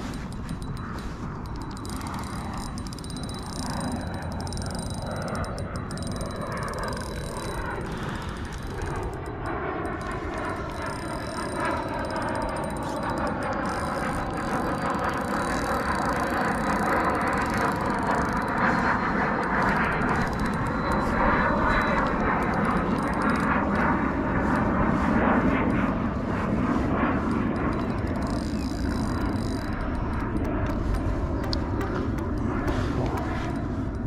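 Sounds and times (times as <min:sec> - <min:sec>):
steady engine-like drone: 0:00.0 - 0:34.0.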